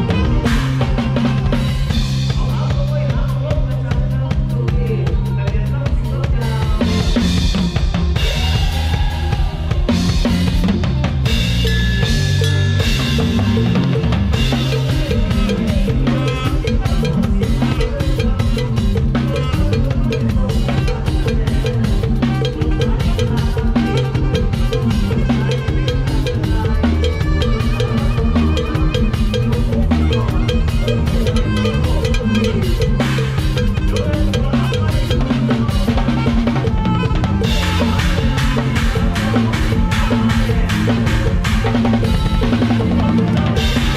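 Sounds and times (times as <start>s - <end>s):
bass and melody instruments: 0.0s - 43.9s
drum kit beat: 0.0s - 43.9s.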